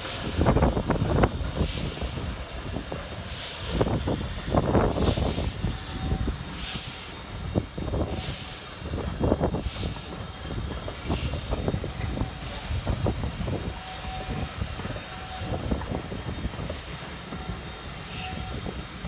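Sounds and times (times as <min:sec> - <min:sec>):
steam hissing: 0:00.0 - 0:19.0
steam locomotive exhaust chuffs: 0:00.0 - 0:19.0.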